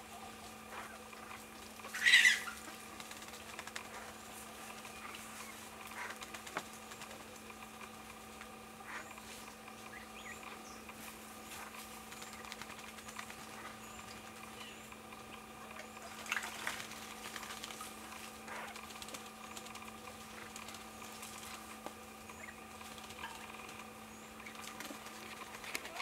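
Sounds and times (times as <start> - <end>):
small birds chirping: 0.0 - 26.0
steady hum: 0.0 - 26.0.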